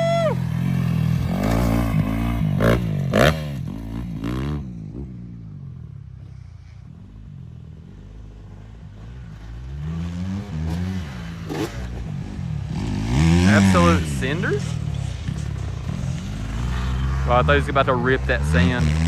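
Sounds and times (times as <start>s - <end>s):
dirt bike engine revving: 0.0s - 5.9s, 7.7s - 19.0s.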